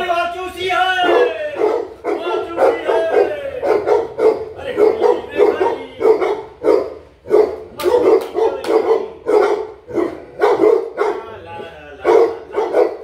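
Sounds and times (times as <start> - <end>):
dogs barking: 1.0 - 13.0.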